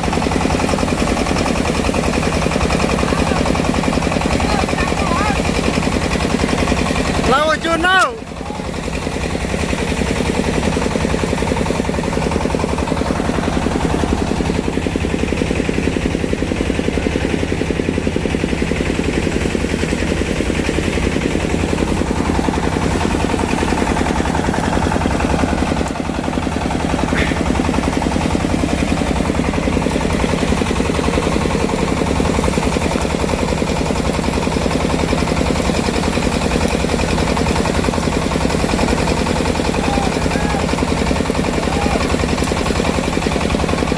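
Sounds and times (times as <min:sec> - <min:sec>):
engine hum: 0:00.0 - 0:43.9
threshing machine rattling: 0:00.0 - 0:43.9.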